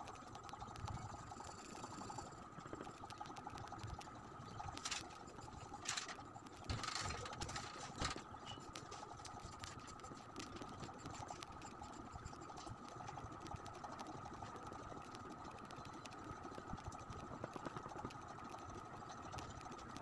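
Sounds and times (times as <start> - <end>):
faint high hum: 0.0 - 20.0.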